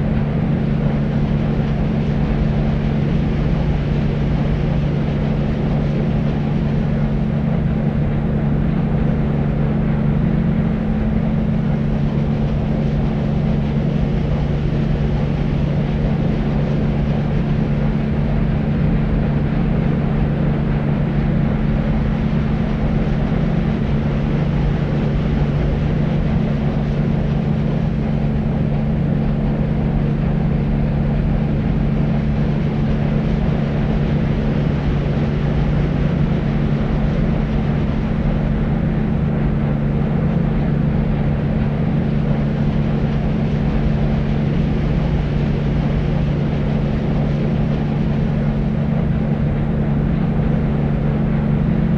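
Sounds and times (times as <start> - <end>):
deep white noise: 0.0 - 51.9
low hum: 0.0 - 51.9.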